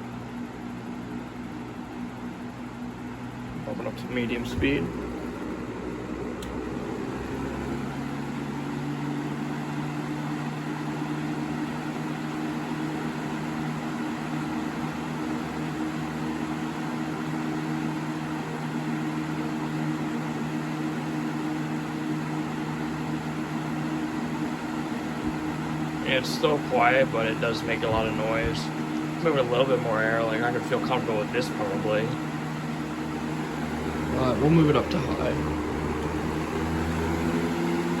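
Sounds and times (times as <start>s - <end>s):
box fan running: 0.0s - 38.0s.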